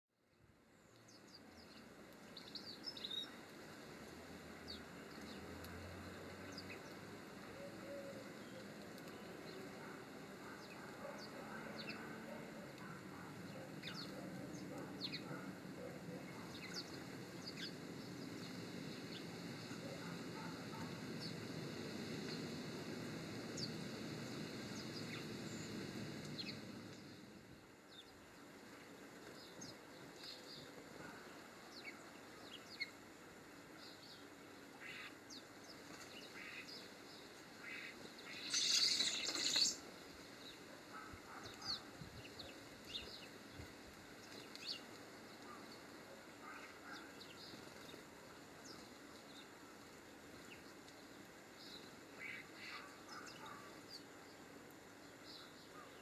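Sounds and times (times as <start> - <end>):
small birds chirping: 0.3 - 56.0.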